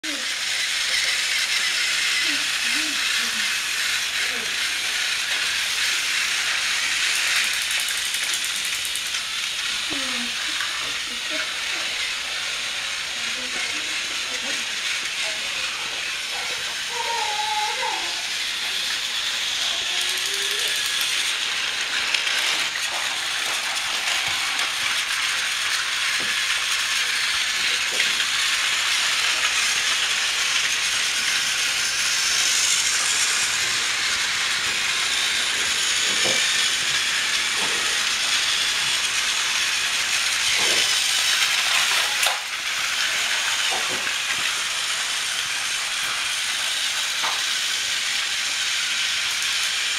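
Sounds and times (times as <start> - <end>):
toy train motors whirring: 0.0 - 49.9.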